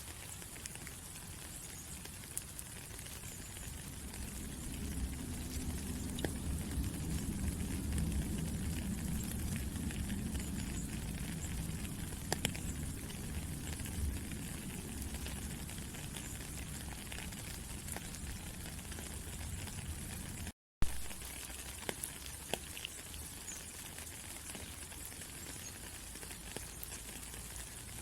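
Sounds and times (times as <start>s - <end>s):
raindrops ticking: 0.0s - 28.0s
steady rain falling: 0.0s - 28.0s.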